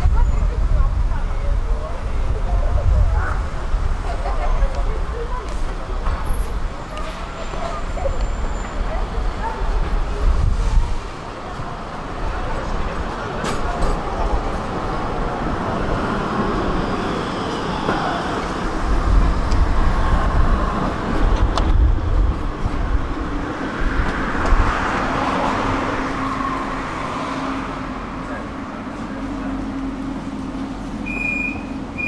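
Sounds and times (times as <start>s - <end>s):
road traffic: 0.0s - 32.0s
tram rumble and wheel noise: 0.0s - 32.0s.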